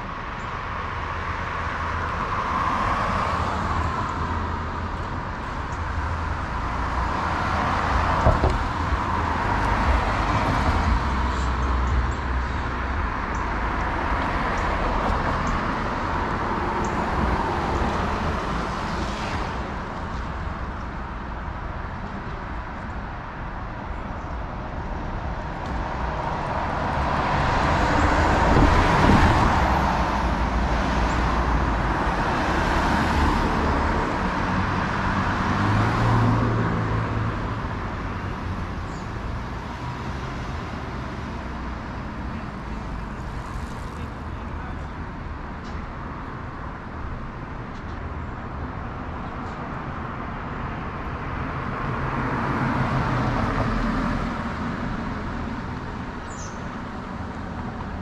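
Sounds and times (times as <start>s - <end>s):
vehicles passing on street: 0.0s - 58.0s.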